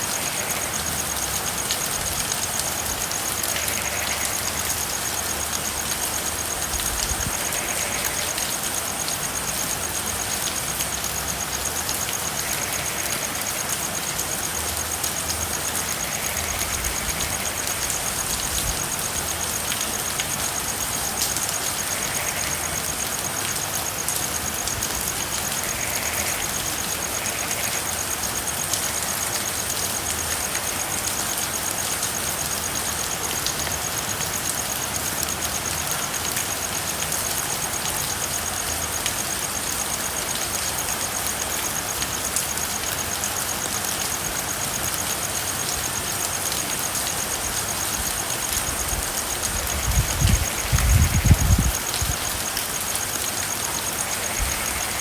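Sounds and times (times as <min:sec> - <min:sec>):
frogs calling: 0:00.0 - 0:55.0
steady rain falling: 0:00.0 - 0:55.0.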